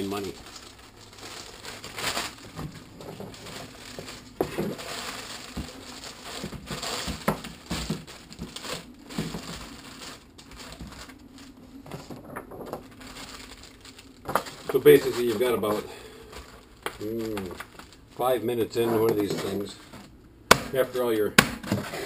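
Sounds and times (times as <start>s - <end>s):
plastic bag crinkling and rustling: 0.0s - 22.0s.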